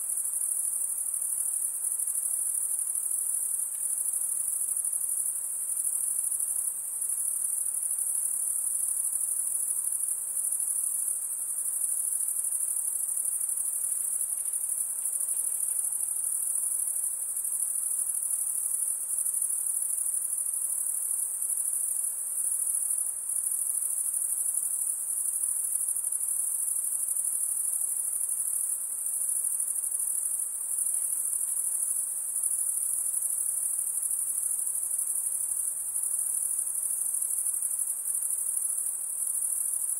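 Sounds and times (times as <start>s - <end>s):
insects trilling: 0.1s - 39.9s.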